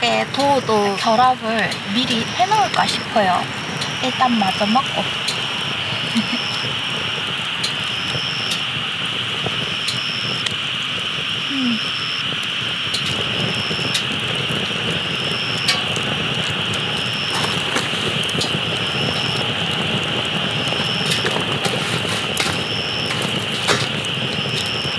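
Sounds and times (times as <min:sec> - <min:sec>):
campfire crackling and popping: 0:00.0 - 0:24.9.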